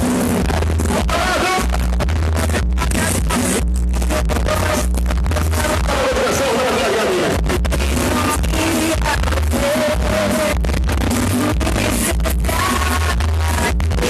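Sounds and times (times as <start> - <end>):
dance music with singing: 0.0 - 14.0.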